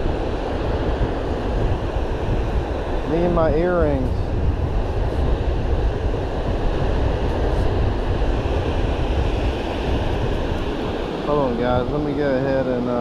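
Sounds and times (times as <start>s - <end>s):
surf rushing on beach: 0.0s - 13.0s
wind buffeting microphone: 0.0s - 13.0s.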